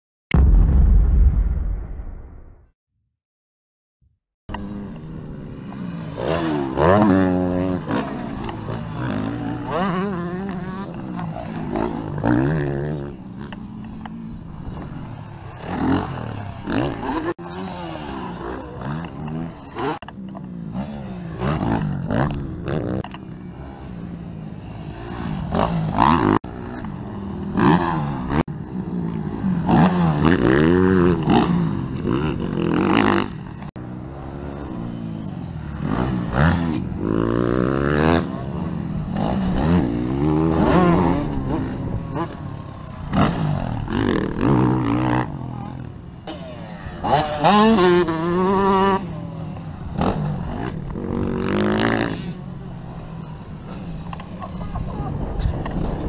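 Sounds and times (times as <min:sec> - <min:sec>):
dirt bikes revving past: 0:04.5 - 0:56.0.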